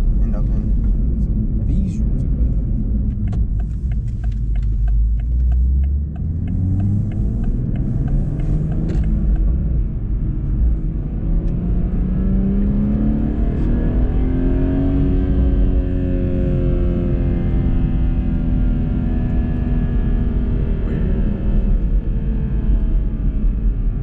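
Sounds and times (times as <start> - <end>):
car engine accelerating: 0.0 - 24.0
road rumble: 0.0 - 24.0.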